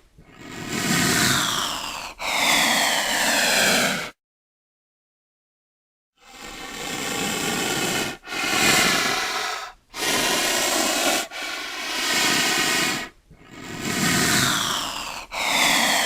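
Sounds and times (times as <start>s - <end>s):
rhinoceros hissing breaths: 0.2s - 4.1s, 6.2s - 16.0s.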